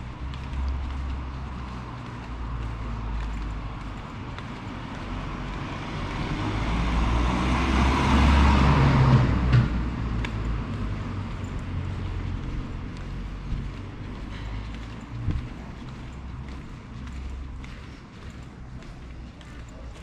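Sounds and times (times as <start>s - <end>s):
low engine hum: 0.0s - 20.0s
vehicle driving past: 0.0s - 20.0s.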